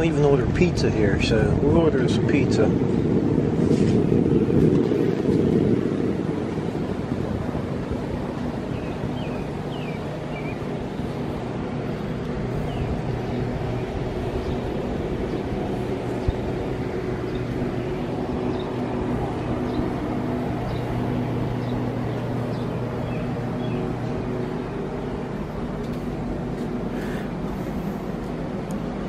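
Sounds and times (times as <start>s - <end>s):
low machine hum with tones: 0.0s - 29.0s
rumbling handling noise: 0.0s - 29.0s.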